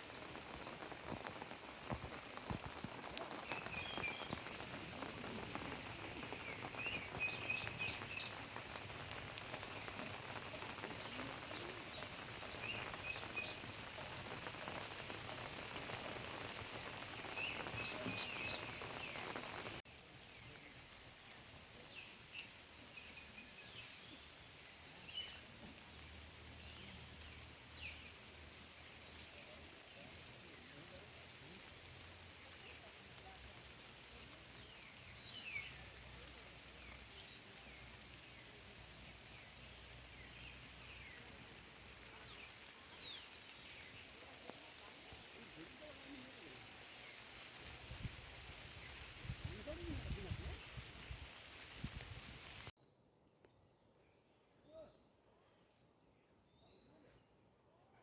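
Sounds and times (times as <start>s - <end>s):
rain: 0.0s - 52.7s.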